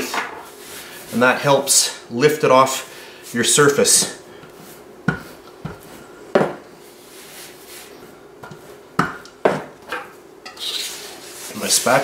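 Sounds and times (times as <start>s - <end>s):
dough rolling and handling: 0.0s - 12.0s.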